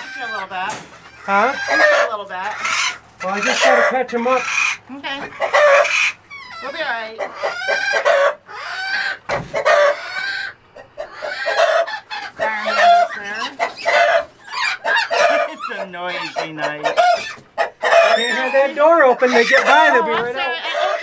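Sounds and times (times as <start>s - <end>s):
chickens squawking in alarm: 0.0s - 21.0s.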